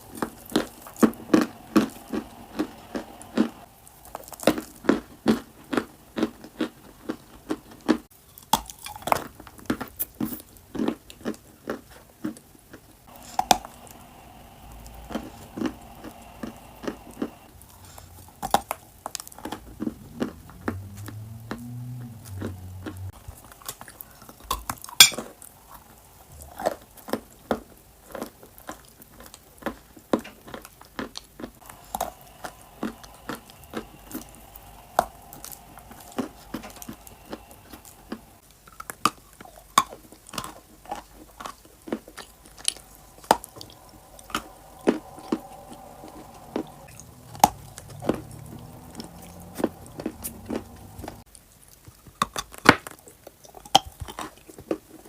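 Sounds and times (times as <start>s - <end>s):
crunching and chewing clay: 0.0s - 55.0s.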